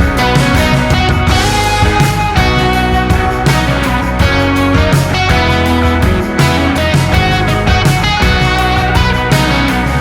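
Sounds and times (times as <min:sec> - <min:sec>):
pop-rock song with guitars and drums: 0:00.0 - 0:10.0.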